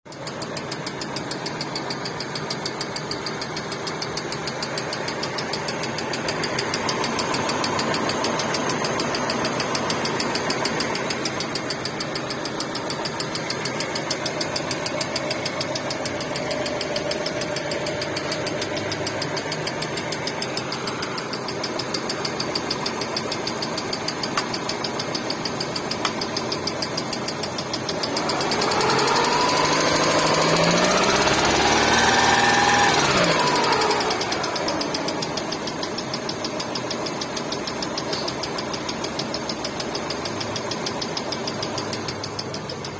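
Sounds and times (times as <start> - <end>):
car engine running: 0.1 - 42.9
metallic engine knock: 0.1 - 42.9.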